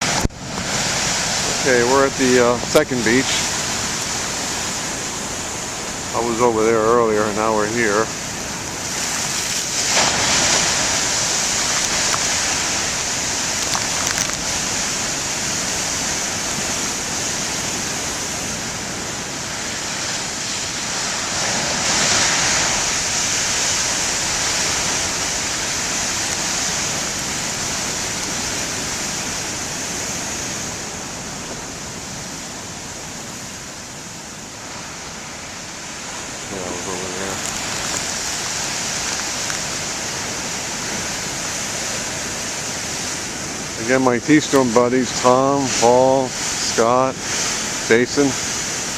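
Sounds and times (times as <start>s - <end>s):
ocean waves breaking: 0.0s - 48.9s.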